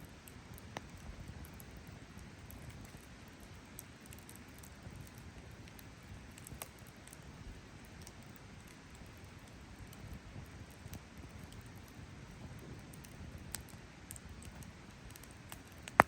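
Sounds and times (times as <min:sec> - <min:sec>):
campfire crackling and popping: 0:00.1 - 0:16.0.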